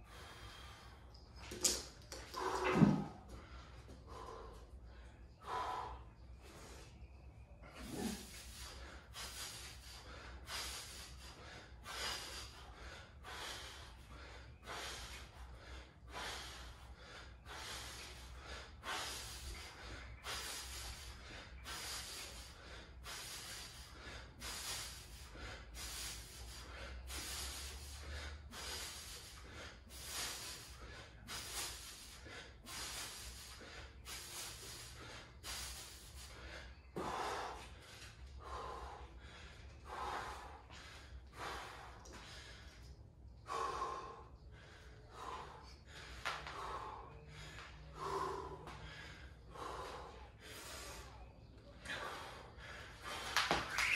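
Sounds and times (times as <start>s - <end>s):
man breathing hard: 0.0s - 53.6s.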